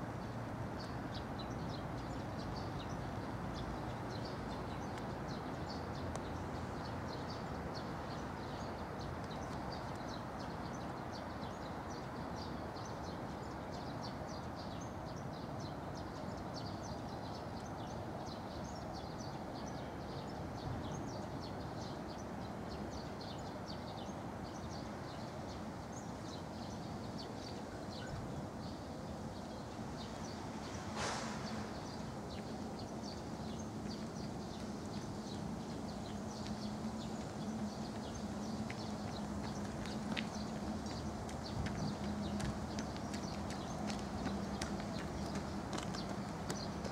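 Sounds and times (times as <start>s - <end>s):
small birds chirping: 0.2s - 46.9s.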